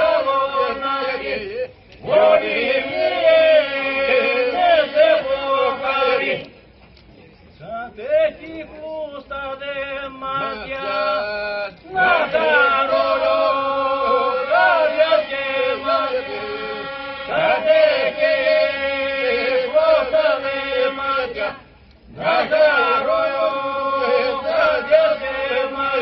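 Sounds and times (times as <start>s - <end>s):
men chanting: 0.0s - 6.5s, 9.4s - 26.0s.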